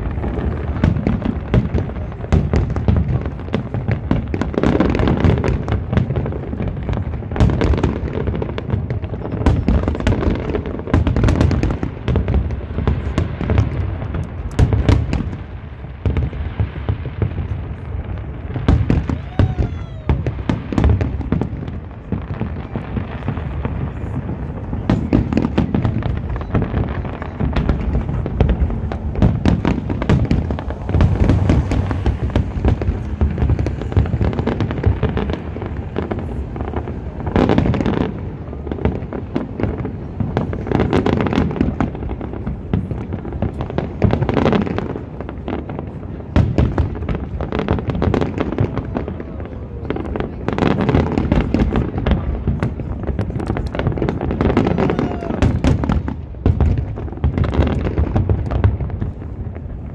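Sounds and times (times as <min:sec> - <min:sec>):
fireworks booms and crackles: 0:00.0 - 0:59.9.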